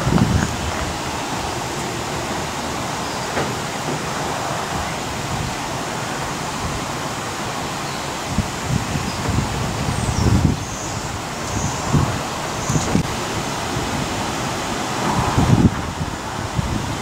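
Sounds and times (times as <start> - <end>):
steam hissing: 0.0 - 17.0.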